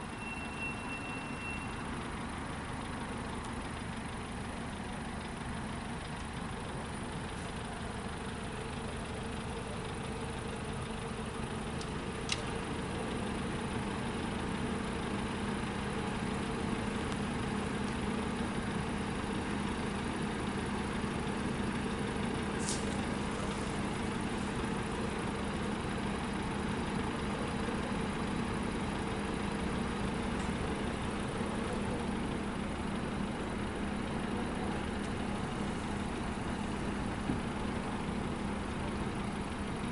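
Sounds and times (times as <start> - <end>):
vehicle engines idling: 0.0 - 39.9.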